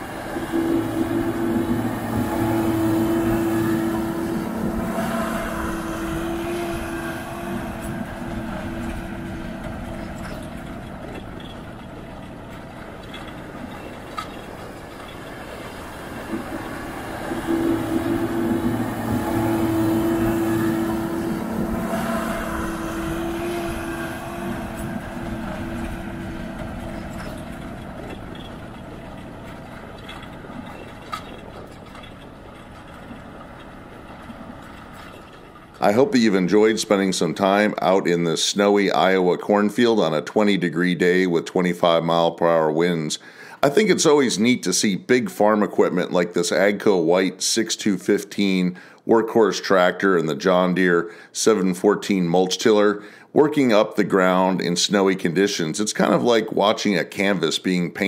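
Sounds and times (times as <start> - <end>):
tractor diesel engine under load: 0.0 - 52.2.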